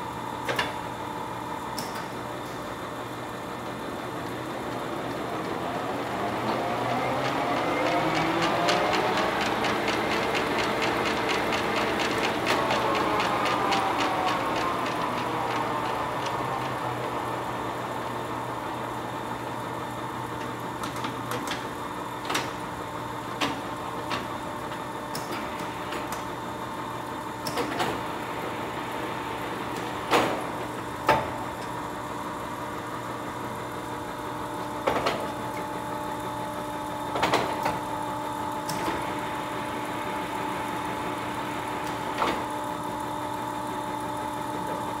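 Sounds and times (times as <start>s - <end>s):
lathe whining and humming: 0.0s - 45.0s.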